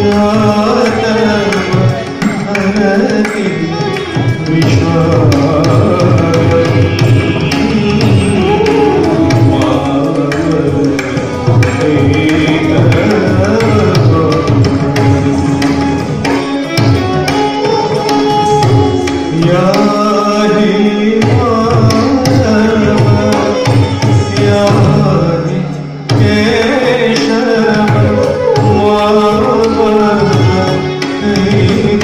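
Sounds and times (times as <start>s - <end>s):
hand drum playing: 0.0s - 32.0s
bamboo flute melody: 3.6s - 32.0s.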